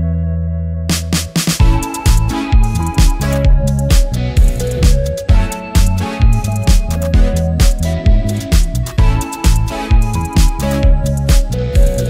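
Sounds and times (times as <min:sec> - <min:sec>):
bass line: 0:00.0 - 0:12.0
electronic drum beat: 0:00.9 - 0:12.0.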